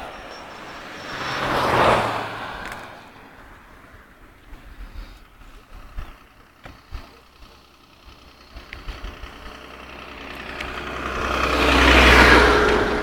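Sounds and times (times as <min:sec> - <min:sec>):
car engines idling: 0:00.0 - 0:13.0.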